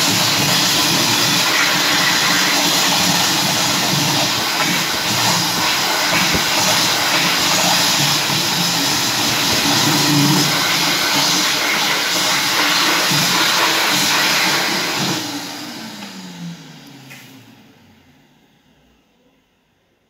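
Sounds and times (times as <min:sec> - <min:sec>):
hand dryer blowing air: 0:00.0 - 0:17.8.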